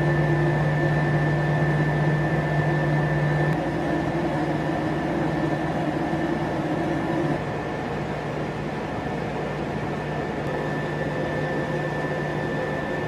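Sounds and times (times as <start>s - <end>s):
faint high whine: 0.0s - 8.0s, 9.8s - 13.0s
low mechanical hum: 0.0s - 13.0s.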